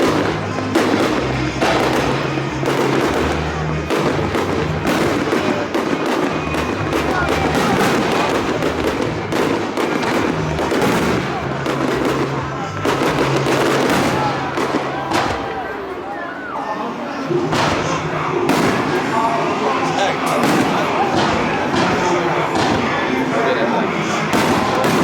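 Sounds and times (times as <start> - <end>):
music over loudspeakers: 0.0 - 15.8, 16.6 - 25.0
fireworks bursting: 0.0 - 25.0.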